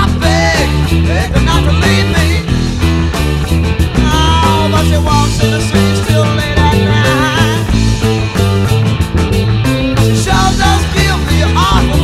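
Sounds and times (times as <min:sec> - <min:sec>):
blues-rock recording: 0:00.0 - 0:12.0
electric bass line: 0:00.0 - 0:12.0
lead electric guitar bending notes: 0:00.0 - 0:12.0.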